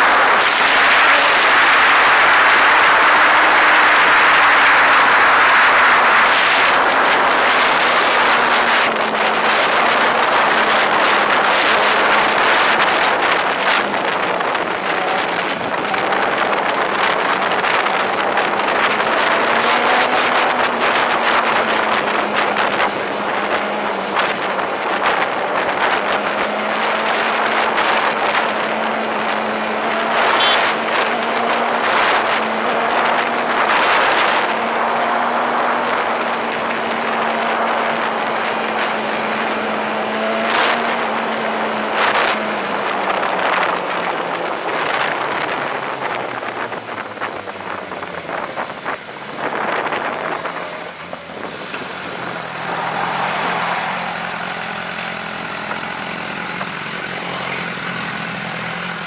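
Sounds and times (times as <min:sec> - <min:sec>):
vehicle engine running: 0:00.0 - 0:59.0
wind rushing over microphone: 0:00.0 - 0:59.0.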